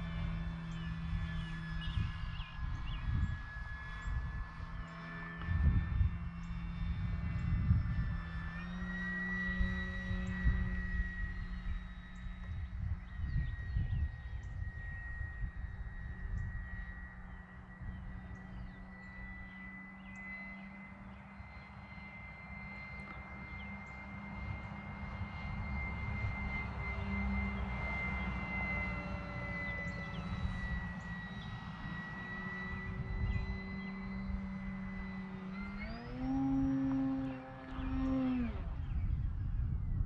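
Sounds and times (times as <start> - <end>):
model plane motor whine: 0.0 - 40.0.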